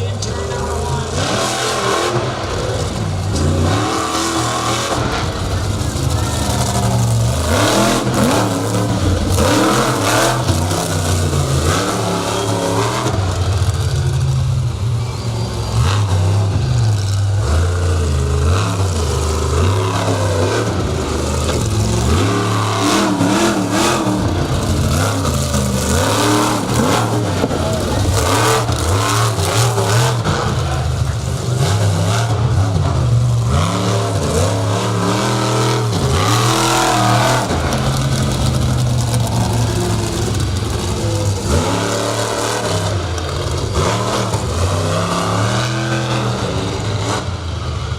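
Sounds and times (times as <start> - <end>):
truck engine revving: 0.0 - 47.9.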